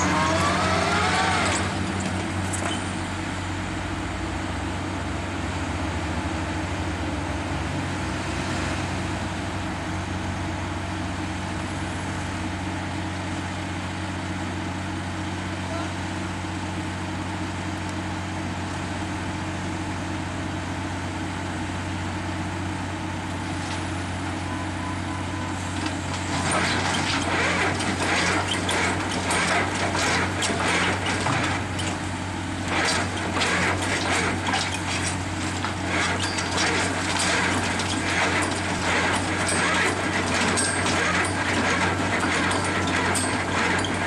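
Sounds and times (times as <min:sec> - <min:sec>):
heavy machinery diesel engines: 0:00.0 - 0:44.0.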